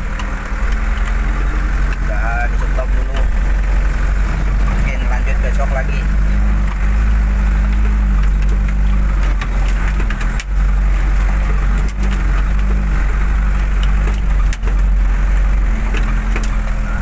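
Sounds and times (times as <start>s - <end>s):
knocks and rattles from bumps: 0.0s - 17.0s
vehicle engine drone: 0.0s - 17.0s.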